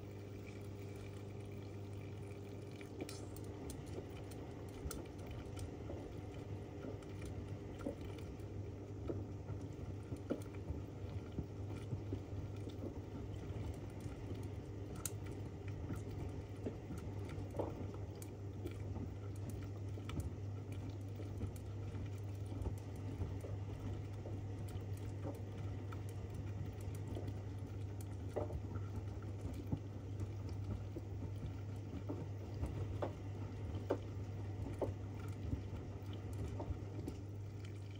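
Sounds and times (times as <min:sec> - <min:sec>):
small clicks and taps: 0:02.7 - 0:37.2.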